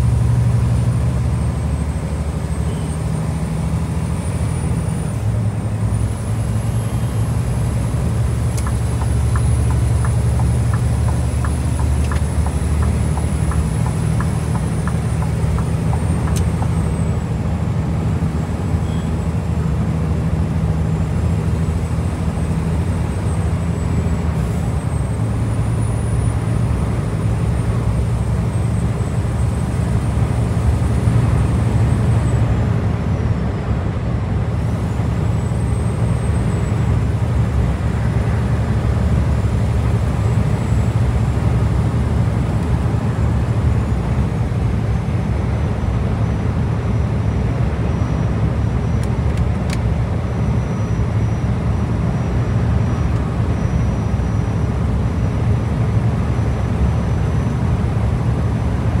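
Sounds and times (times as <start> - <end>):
truck engine drone: 0.0 - 59.0
tyre and road noise: 0.0 - 59.0.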